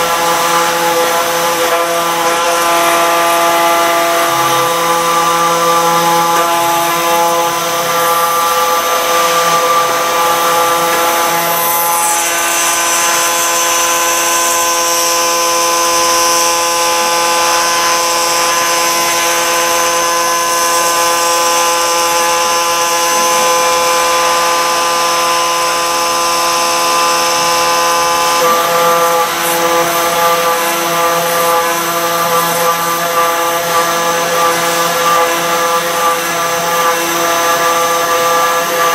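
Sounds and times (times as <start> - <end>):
router spindle cutting stone: 0.0 - 38.9.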